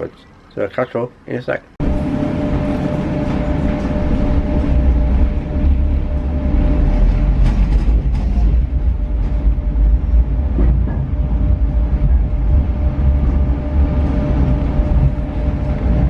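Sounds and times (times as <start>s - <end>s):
vehicle rumble from inside: 1.8s - 16.0s.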